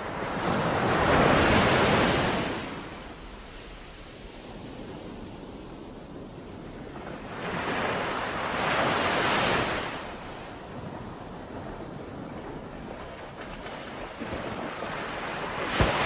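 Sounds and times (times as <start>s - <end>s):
ocean waves breaking on shore: 0.0s - 16.0s.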